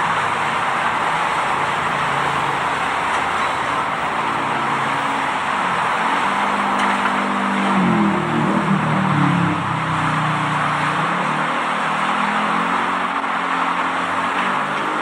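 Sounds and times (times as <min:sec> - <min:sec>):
heavy diesel engine roaring: 0:00.0 - 0:15.0.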